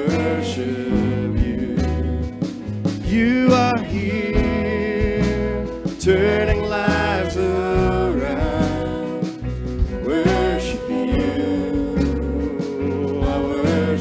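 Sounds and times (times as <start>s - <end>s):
bass guitar: 0.0s - 14.0s
drums: 0.0s - 14.0s
guitar: 0.0s - 14.0s
people singing long notes: 0.0s - 14.0s.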